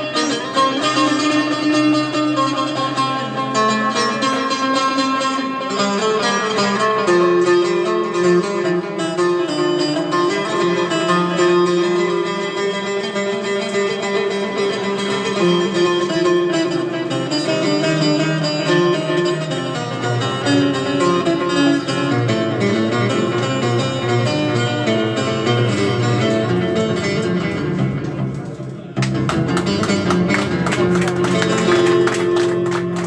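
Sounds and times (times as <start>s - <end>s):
plucked string instrument music: 0.0s - 33.0s.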